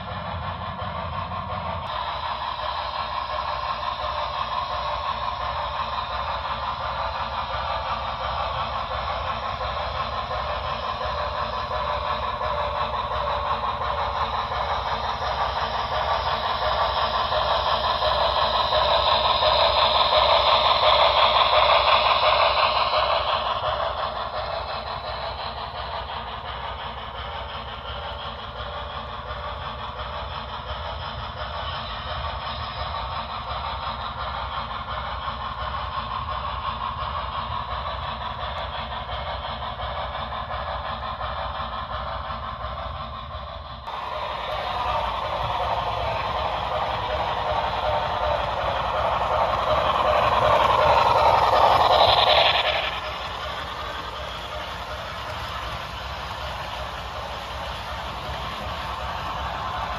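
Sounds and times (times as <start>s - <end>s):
model steam locomotive sounds: 0.0s - 59.9s.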